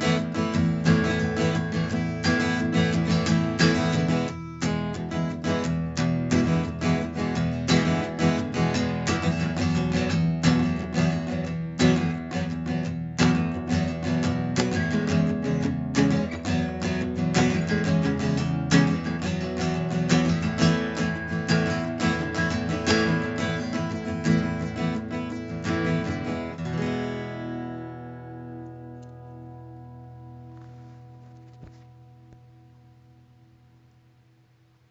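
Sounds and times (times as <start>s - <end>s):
strummed acoustic guitar music: 0.0s - 33.4s.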